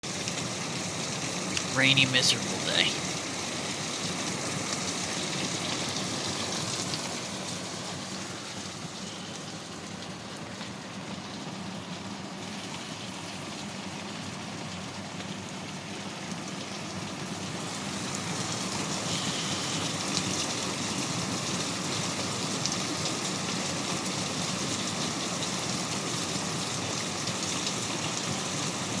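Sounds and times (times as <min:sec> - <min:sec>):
steady rain falling: 0:00.1 - 0:29.0.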